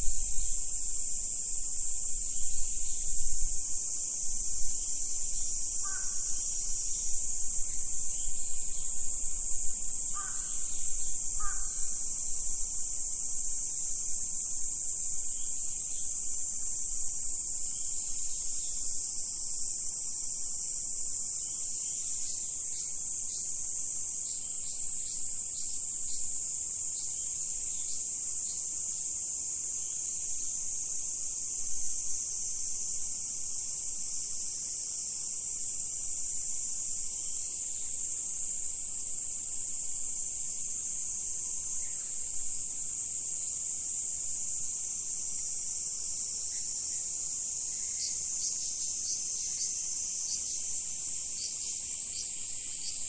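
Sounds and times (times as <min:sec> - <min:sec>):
insects chorus calling: 0:00.0 - 0:53.0.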